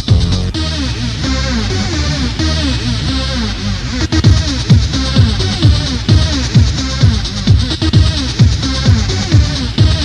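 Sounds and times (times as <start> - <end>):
steady kick drum: 0.0 - 10.0
repeating synth riff: 0.6 - 10.0.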